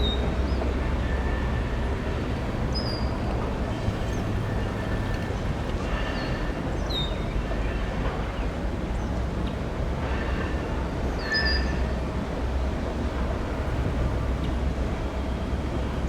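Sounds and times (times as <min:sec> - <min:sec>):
diesel locomotive rumble: 0:00.0 - 0:16.0.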